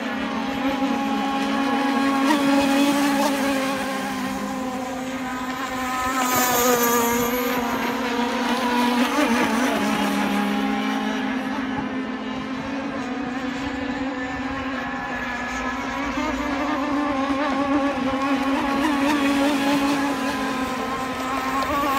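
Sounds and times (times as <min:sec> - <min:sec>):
model speedboat motor buzzing: 0:00.0 - 0:21.9.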